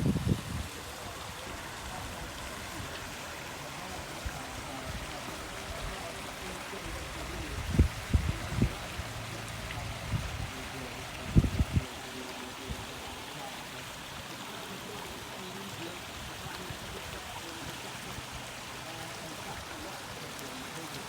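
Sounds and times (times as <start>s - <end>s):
water rushing over bulkhead: 0.0s - 21.0s.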